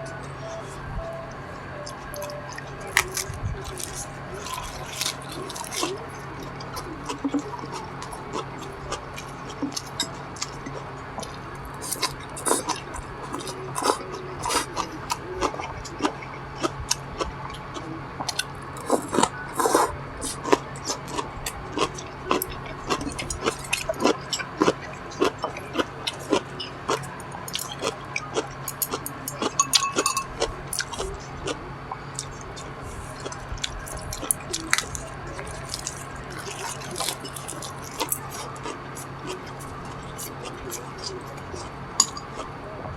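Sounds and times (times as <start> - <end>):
low steady hum: 0.0 - 42.9
person chewing: 1.8 - 42.5.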